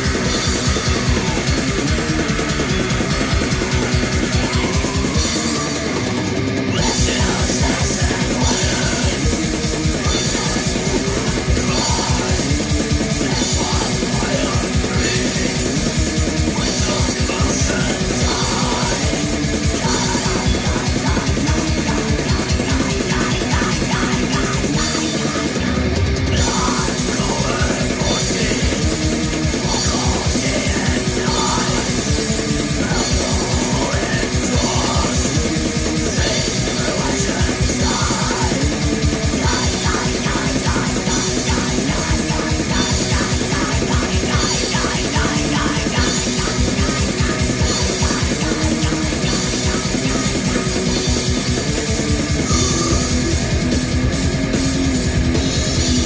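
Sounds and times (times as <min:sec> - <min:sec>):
distorted guitars: 0:00.0 - 0:56.0
harsh yelled vocals: 0:00.0 - 0:56.0
rapid drumming: 0:00.0 - 0:56.0.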